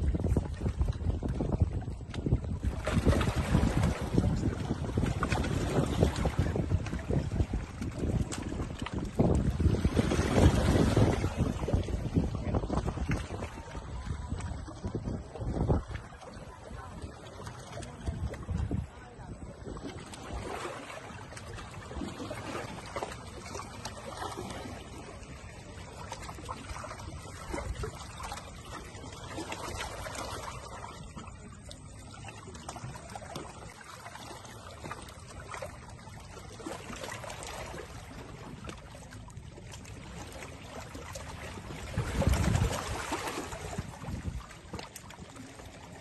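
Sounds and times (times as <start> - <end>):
waves lapping against rocks: 0.0 - 46.0.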